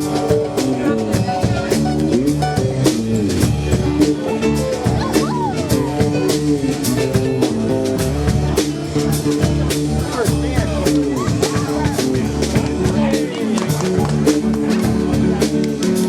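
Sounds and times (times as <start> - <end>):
drum kit steady beat: 0.0 - 16.0
live band playing: 0.0 - 16.0.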